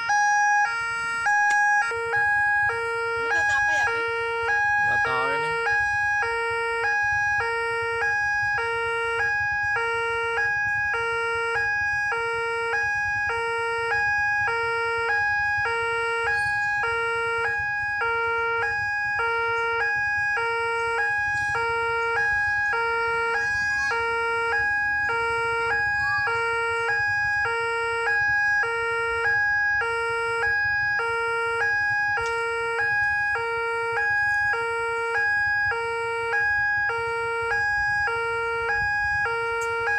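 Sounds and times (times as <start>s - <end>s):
level crossing two-tone alarm: 0.0s - 39.9s
steady high tone: 0.0s - 39.9s.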